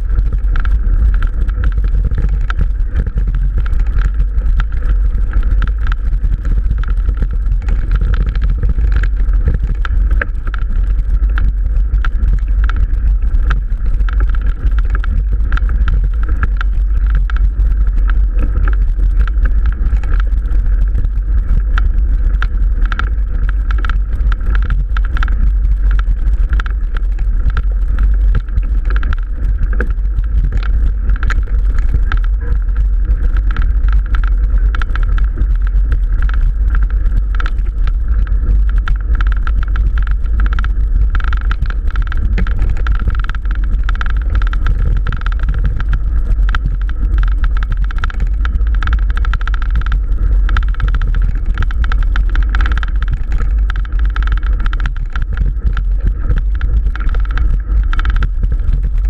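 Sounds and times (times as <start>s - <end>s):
bike rattling clicks: 0.0s - 59.0s
wind rumble on microphone: 0.0s - 59.0s.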